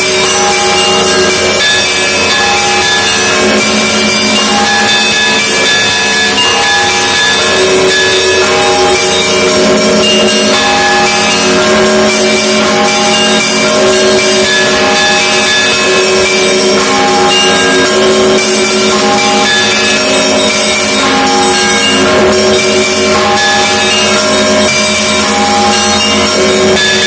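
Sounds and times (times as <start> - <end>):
church bells pealing: 0.0 - 27.0.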